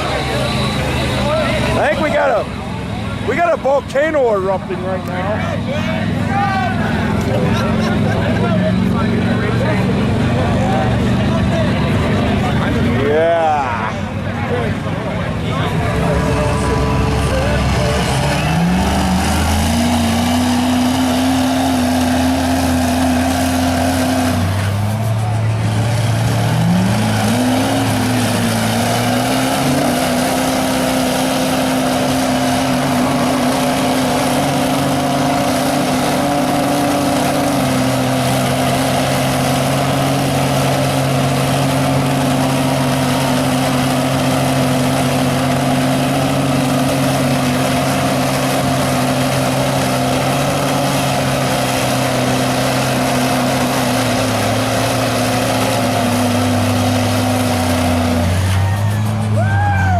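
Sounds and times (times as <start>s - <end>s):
truck engine high revs: 0.0s - 59.9s.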